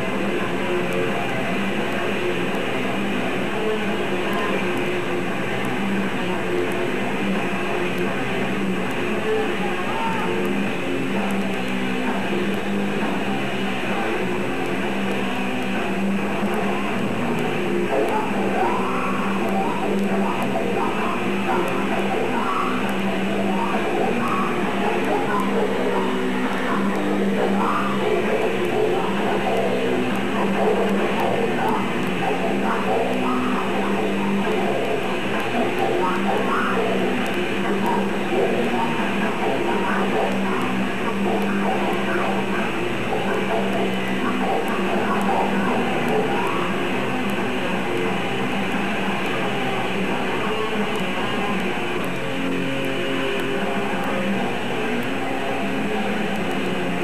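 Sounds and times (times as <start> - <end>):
distorted electric guitars riffing: 0.0 - 57.0
drums: 0.0 - 57.0.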